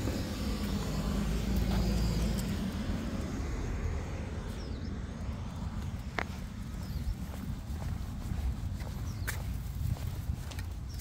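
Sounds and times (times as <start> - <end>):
car passing: 0.0 - 9.8.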